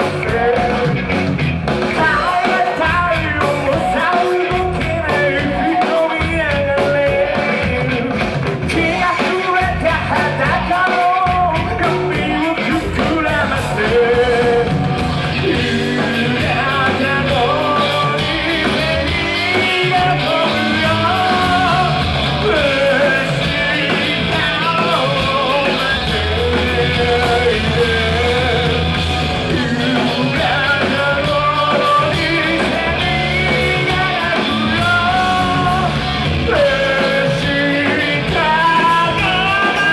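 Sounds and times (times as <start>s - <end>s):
person singing: 0.0s - 1.1s, 1.9s - 39.9s
rock band playing live: 0.0s - 39.9s.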